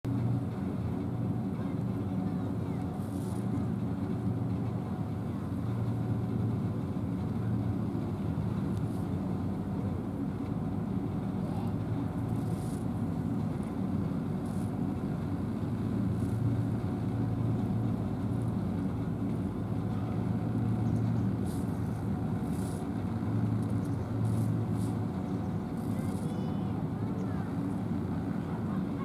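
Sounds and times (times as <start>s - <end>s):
engine droning: 0.1s - 29.0s.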